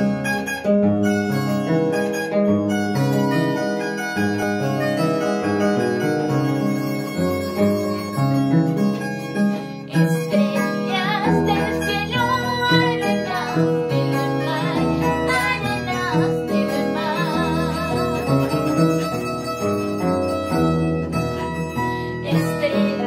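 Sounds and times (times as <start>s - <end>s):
plucked strings: 0.0s - 23.0s
wavering melody line: 0.0s - 23.0s.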